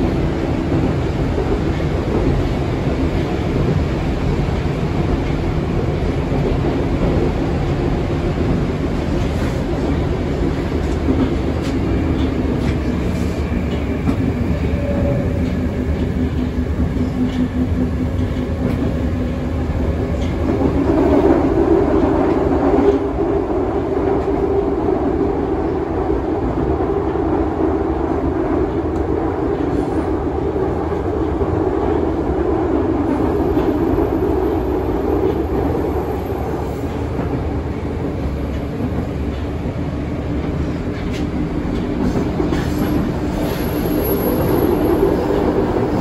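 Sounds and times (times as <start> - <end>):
metro train wheels rumbling: 0.0 - 46.0.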